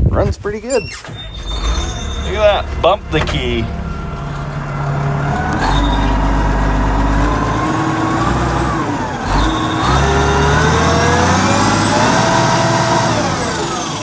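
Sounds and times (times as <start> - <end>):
diesel engine revving: 1.0 - 14.0
turbocharger whine: 1.2 - 14.0.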